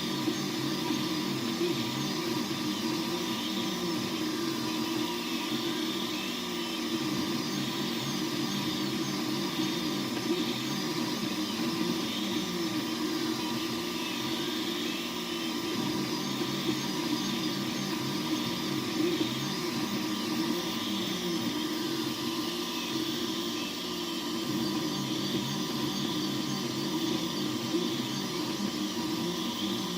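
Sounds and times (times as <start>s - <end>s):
steady mechanical hum: 0.0s - 29.9s
stepper motors whining: 0.0s - 29.9s.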